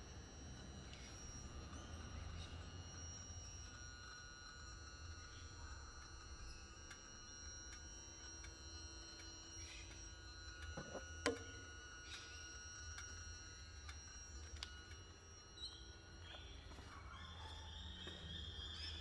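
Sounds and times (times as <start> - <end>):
high-pitched electronic whine: 0.1 - 19.0.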